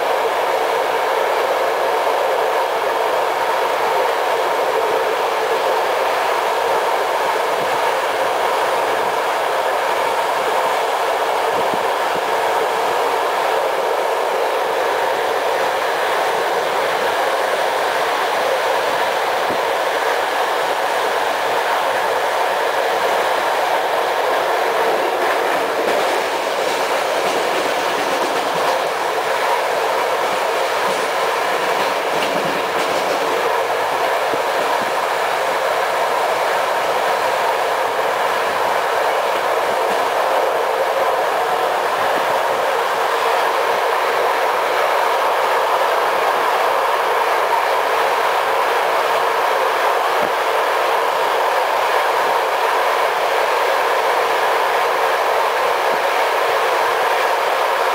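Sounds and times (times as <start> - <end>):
train wheels rolling on rails: 0.0 - 57.9.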